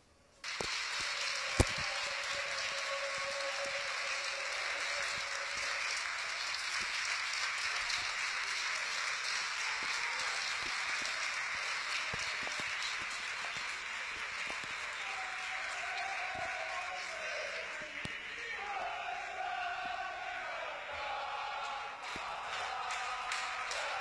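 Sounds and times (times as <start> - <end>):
crowd applauding: 0.4 - 24.0.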